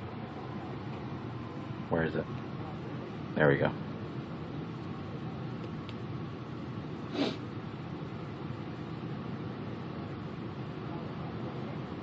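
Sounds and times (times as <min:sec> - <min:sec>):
vehicle idling: 0:00.0 - 0:12.0.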